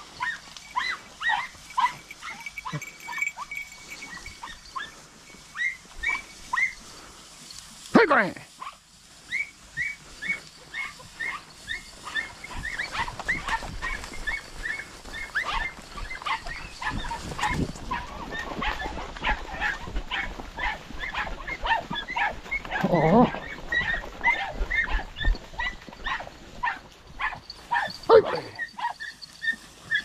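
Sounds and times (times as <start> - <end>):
hounds yelping: 0.0 - 7.2, 8.5 - 30.0.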